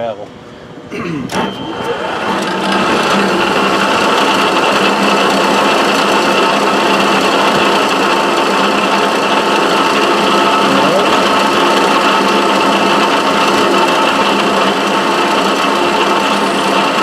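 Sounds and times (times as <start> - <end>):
milling machine humming: 0.9 - 17.0.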